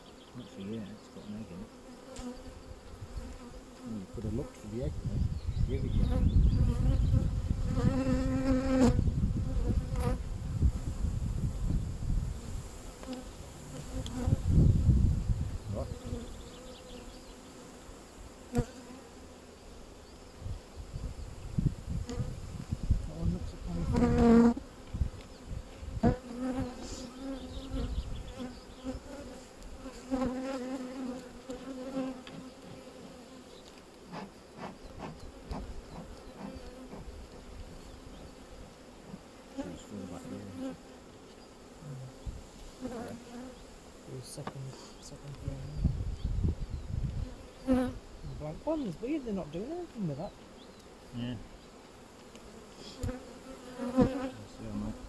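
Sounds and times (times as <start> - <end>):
bee humming close by: 0.0 - 44.2, 45.0 - 55.0
honeybees buzzing: 0.0 - 55.0.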